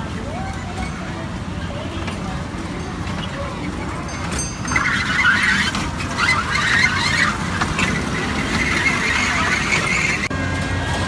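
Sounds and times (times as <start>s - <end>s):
fairground train low hum: 0.0s - 11.0s
train harsh running noise: 0.0s - 11.0s.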